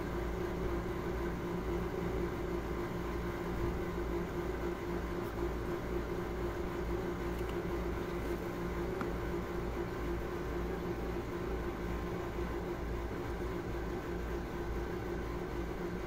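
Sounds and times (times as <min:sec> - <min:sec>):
mechanical hum with low rumble: 0:00.0 - 0:16.0.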